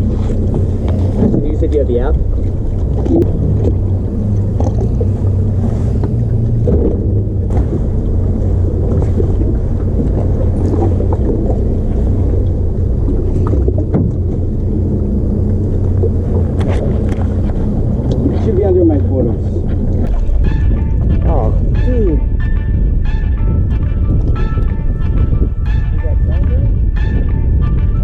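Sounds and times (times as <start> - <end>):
boat motor idling: 0.0 - 28.0.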